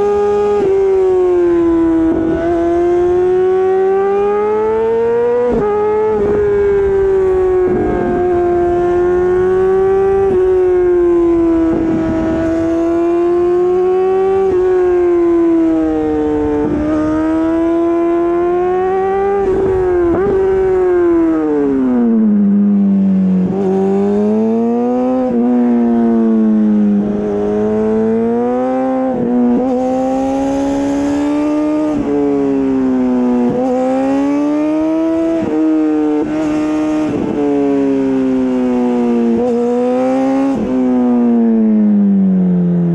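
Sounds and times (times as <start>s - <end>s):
motorcycle engine revving: 0.0s - 42.1s.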